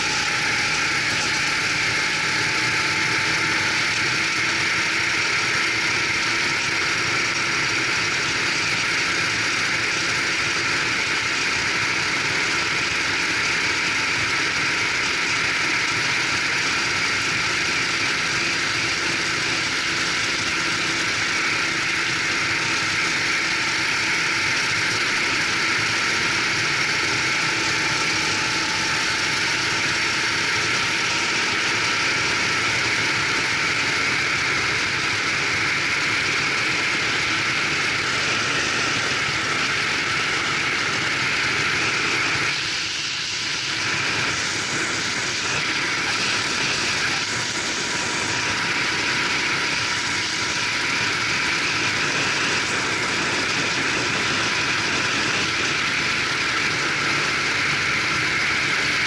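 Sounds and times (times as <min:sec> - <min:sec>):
go-kart engine at speed: 0:00.0 - 0:59.0.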